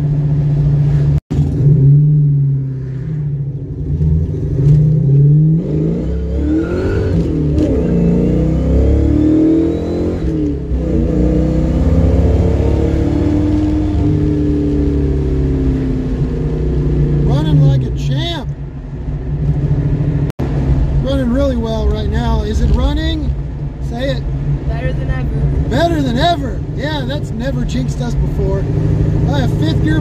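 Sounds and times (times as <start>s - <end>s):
car engine accelerating hard: 0.0s - 18.4s, 19.4s - 30.0s.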